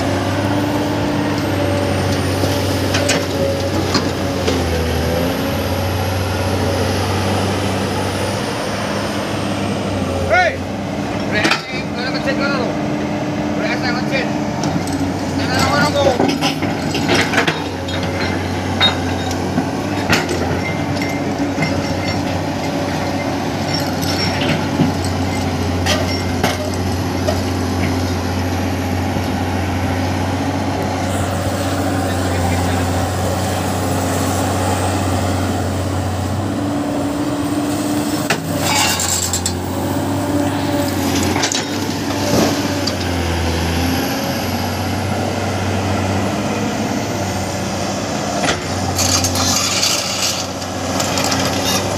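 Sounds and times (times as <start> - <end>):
diesel engine running under load: 0.0 - 51.9.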